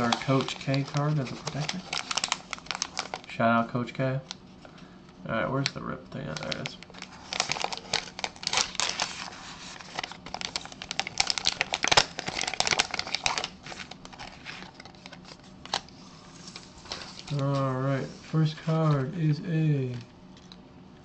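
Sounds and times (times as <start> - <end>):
foil pack crinkling: 0.0 - 3.4, 5.6 - 19.1.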